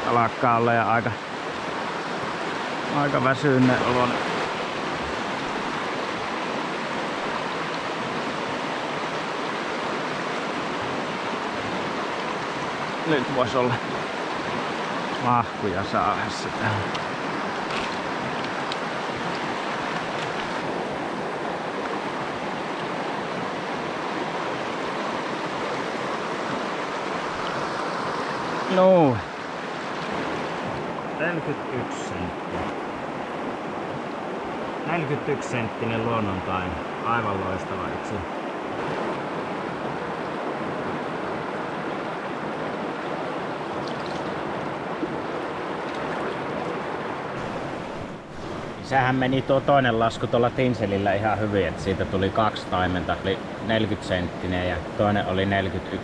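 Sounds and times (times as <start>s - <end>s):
water rushing over rapids: 0.0s - 56.0s.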